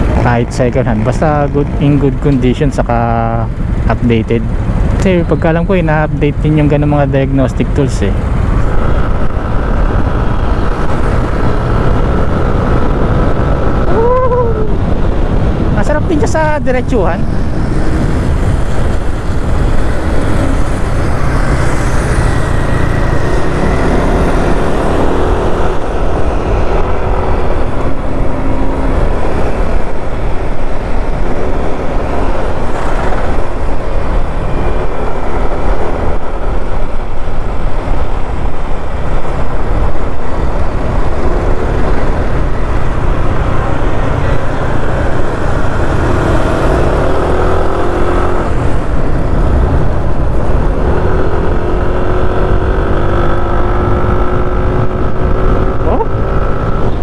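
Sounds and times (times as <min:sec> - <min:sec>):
passing vehicles: 0:00.0 - 0:57.0
wind rushing over microphone: 0:00.0 - 0:57.0.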